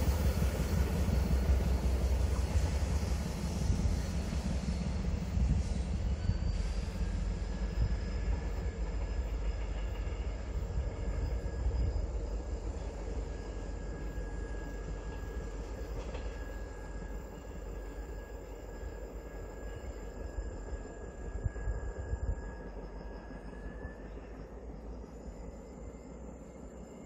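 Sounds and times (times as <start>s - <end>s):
train engine and wheels rumbling: 0.0s - 27.0s.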